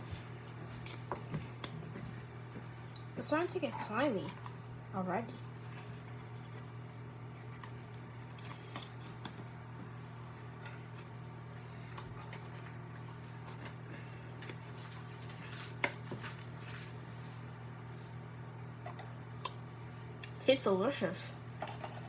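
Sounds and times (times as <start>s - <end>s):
sticky mixture worked in bowl: 0.0s - 20.4s
steady low hum: 0.0s - 22.0s.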